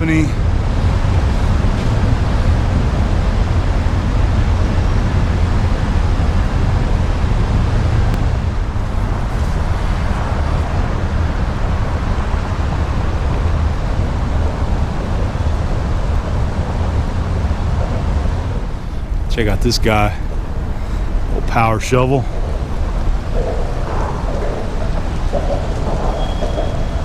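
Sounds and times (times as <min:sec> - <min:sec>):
loud low rumbling noise: 0:00.0 - 0:27.0.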